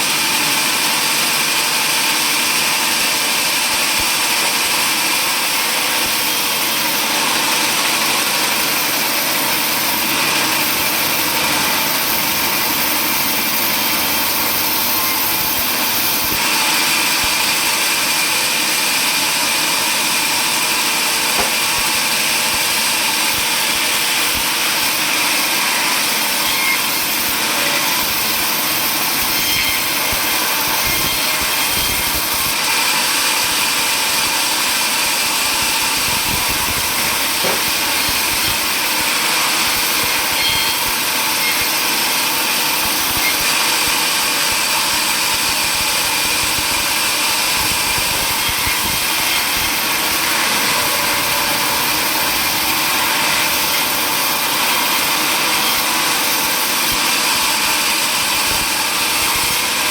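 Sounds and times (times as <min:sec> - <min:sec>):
power saw running: 0:00.0 - 0:59.9.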